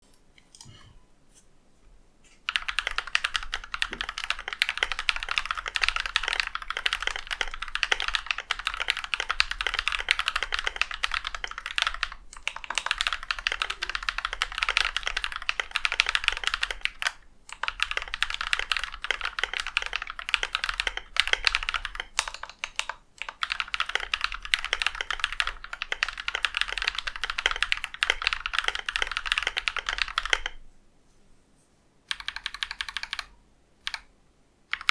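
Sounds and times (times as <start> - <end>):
mechanical keyboard typing: 2.4 - 30.6, 32.1 - 34.1.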